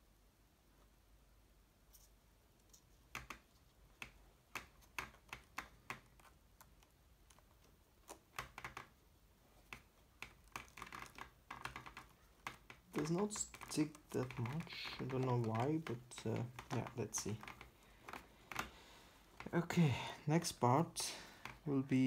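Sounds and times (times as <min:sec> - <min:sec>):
hands rustling foam liner: 0:01.9 - 0:22.0.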